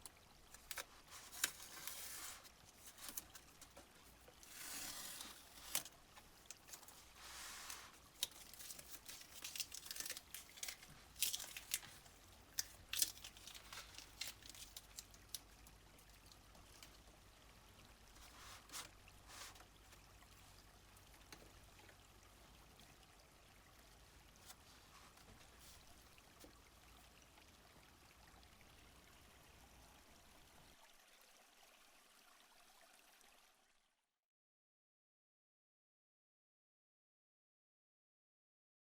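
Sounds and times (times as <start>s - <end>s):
water splashes and drips: 0.0s - 33.9s
stream trickling: 0.0s - 34.0s.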